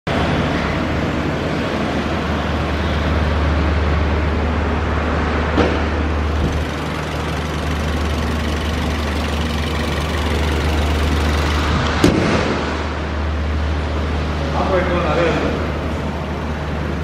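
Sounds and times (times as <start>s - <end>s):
car engine idling: 0.1s - 4.6s, 5.8s - 17.0s.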